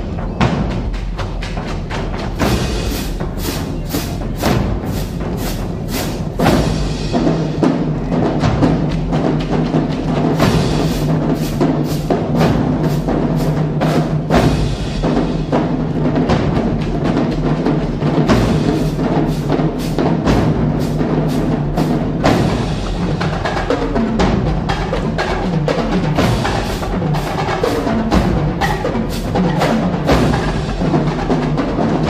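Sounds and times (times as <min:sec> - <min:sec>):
marching drumline playing: 0:00.0 - 0:32.0.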